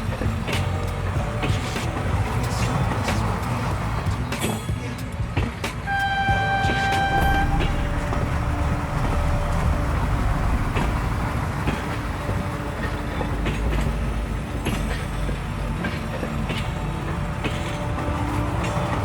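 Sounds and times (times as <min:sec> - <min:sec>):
train rumbling on track: 0:00.0 - 0:19.0
wheels clicking on rails: 0:00.0 - 0:19.0.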